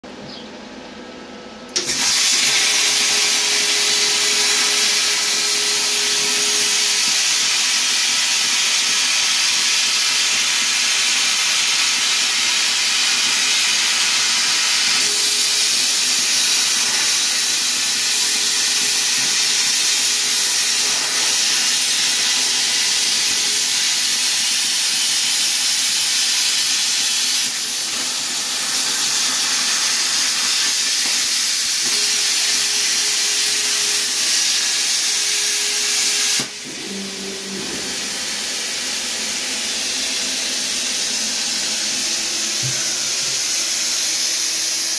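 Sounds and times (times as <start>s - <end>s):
plasma cutter hissing: 1.8s - 44.9s.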